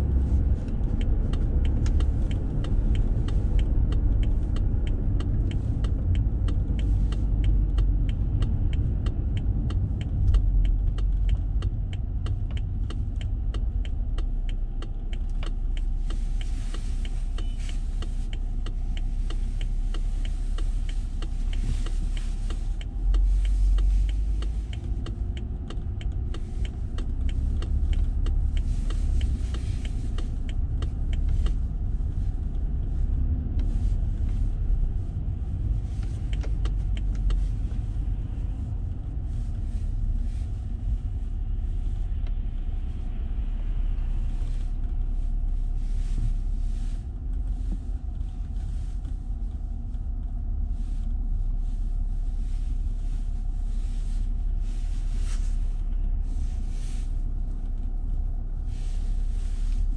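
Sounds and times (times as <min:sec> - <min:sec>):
car road and engine rumble: 0:00.0 - 0:59.9
light regular ticks: 0:00.0 - 0:59.9.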